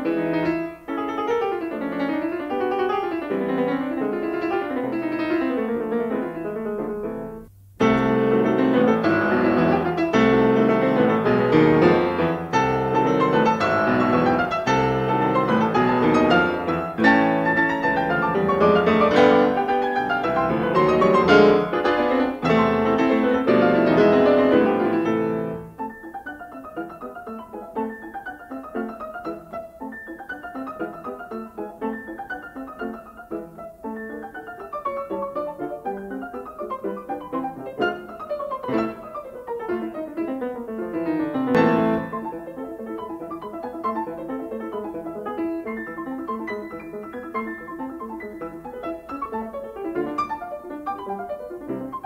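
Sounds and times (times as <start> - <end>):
background piano music: 0.0 - 52.0.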